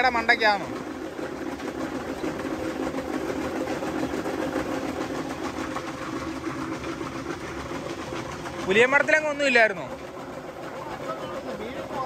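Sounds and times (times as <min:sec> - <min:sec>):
water churning: 0:00.0 - 0:12.0
water pump motor hum: 0:00.0 - 0:12.0.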